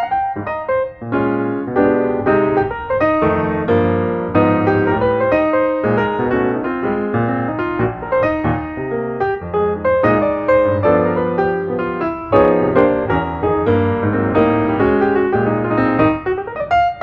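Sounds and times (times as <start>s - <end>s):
piano with bass: 0.0s - 17.0s.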